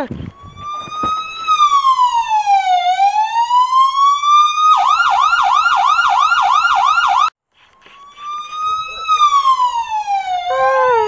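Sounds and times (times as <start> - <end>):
ambulance siren: 0.3 - 11.0.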